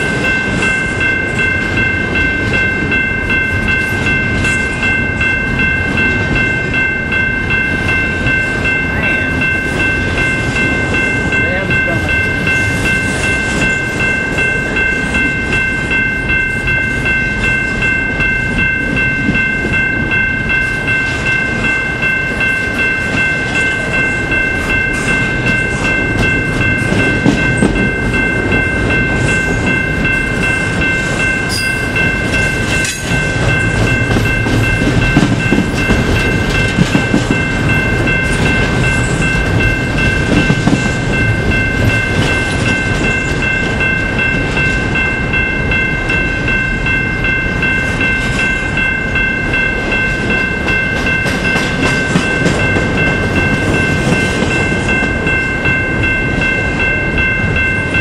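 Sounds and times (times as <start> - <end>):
high-pitched ringing tone: 0.0 - 58.0
train wagons rumbling past: 0.0 - 58.0
wheels clicking on rail joints: 0.0 - 58.0.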